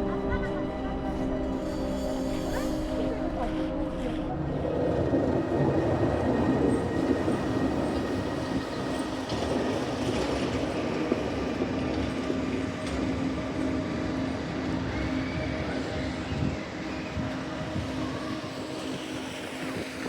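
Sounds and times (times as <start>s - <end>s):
train rumbling in motion: 0.0s - 20.0s.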